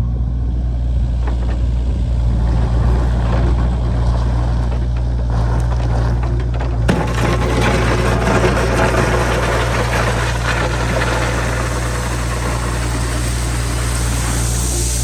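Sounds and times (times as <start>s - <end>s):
trencher engine running: 0.7s - 15.0s
grinding rattling of digging: 0.9s - 15.0s.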